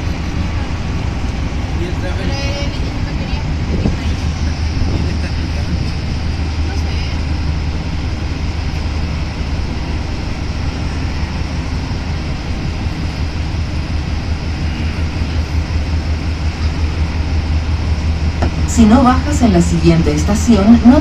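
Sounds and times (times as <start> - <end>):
metro train rumbling: 0.0 - 21.0.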